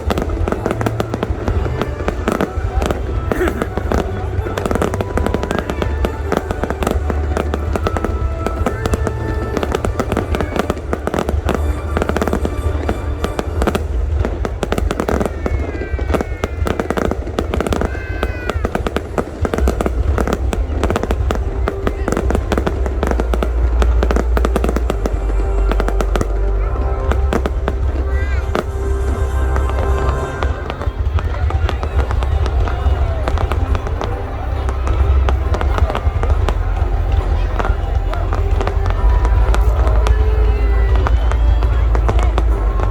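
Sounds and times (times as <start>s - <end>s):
fireworks bangs and crackles: 0.0s - 42.9s
fireworks whistling: 0.0s - 42.9s
music: 0.0s - 42.9s.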